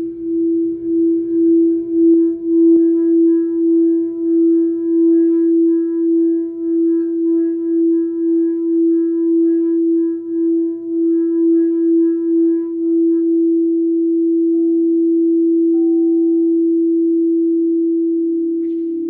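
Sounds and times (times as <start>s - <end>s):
crystal singing bowl note: 0.0s - 19.0s.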